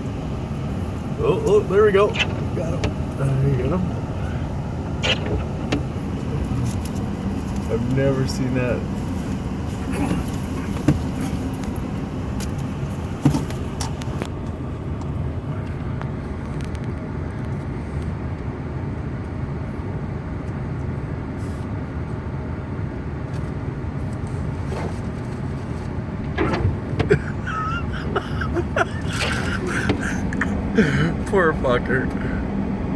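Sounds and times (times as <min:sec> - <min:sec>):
vehicle rumble from inside cab: 0:00.0 - 0:32.9.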